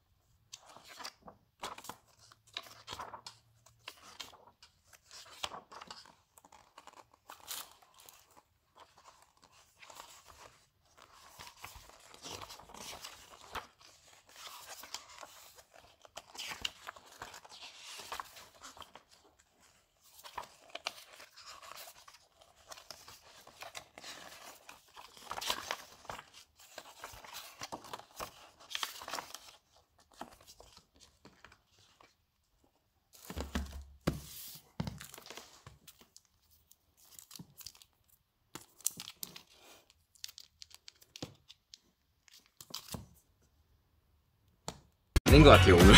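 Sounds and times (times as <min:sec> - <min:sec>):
paper pages rustling: 0:00.5 - 0:32.2, 0:33.1 - 0:43.2.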